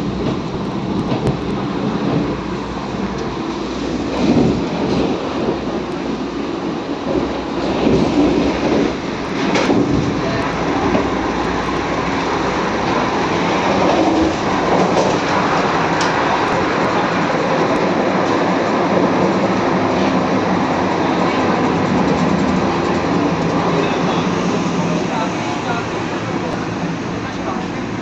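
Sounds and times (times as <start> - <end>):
train rumble and rattle inside coach: 0.0 - 28.0.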